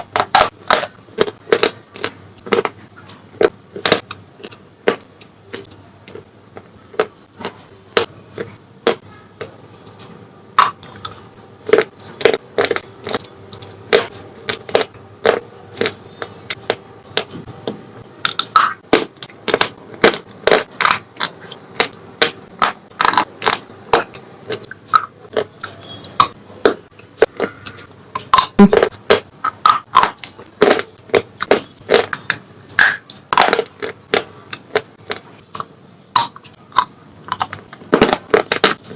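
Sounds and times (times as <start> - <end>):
slate pencils being chewed: 0.0 - 38.9.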